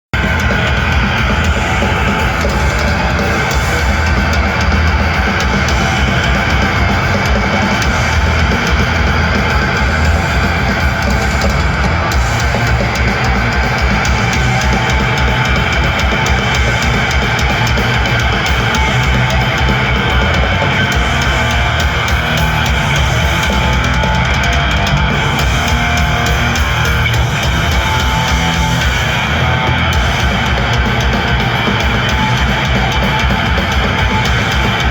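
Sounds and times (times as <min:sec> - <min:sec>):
distorted electric guitars: 0:00.0 - 0:34.9
fast drumming: 0:00.1 - 0:34.9.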